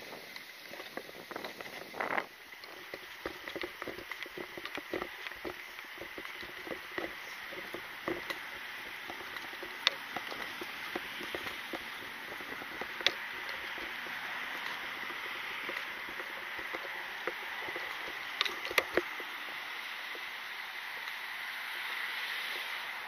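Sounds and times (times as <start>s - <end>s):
gear clicking and rattling: 0.0s - 21.2s
steady outdoor hiss: 0.0s - 23.0s.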